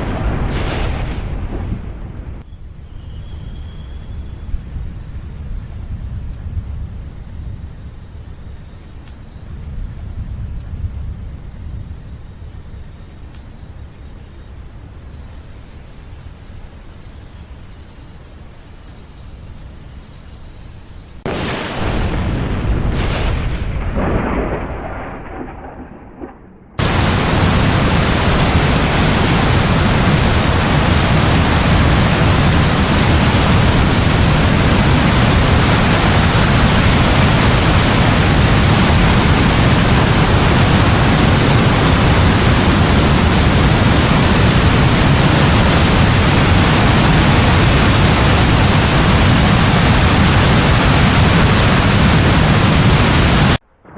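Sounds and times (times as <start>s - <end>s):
thunderclap rumbling: 0.0s - 12.6s, 21.2s - 53.9s
heavy rain hiss: 2.4s - 24.4s, 26.8s - 53.9s.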